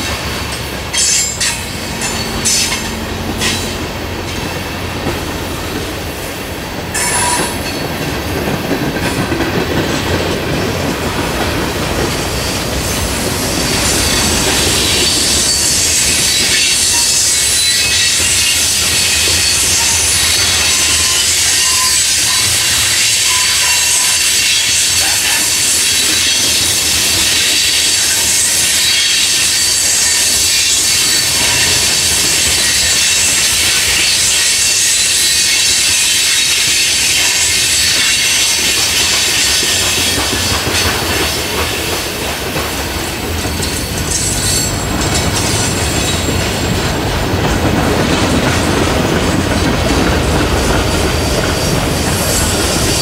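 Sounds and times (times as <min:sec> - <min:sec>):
steel wheels squealing on rail: 0:00.0 - 0:53.0
train wheels clattering on rails: 0:00.0 - 0:53.0.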